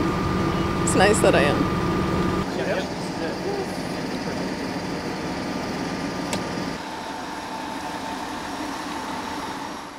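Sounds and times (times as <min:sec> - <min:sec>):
diesel engine idling: 0:00.0 - 0:09.9.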